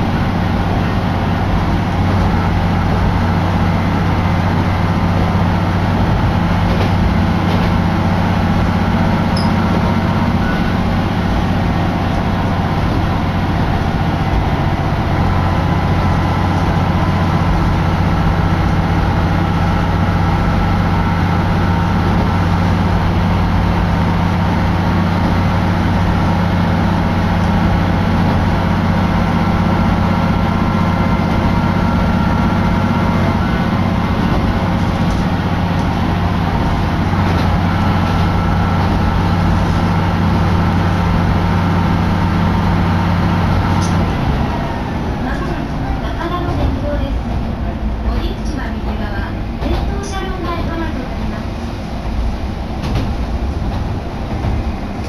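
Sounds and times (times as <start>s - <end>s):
diesel engine hum: 0.0s - 55.0s
train running noise: 0.0s - 55.0s.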